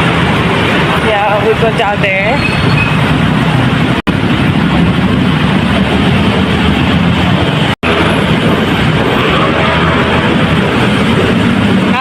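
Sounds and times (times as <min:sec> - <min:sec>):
loud street traffic noise: 0:00.0 - 0:12.0.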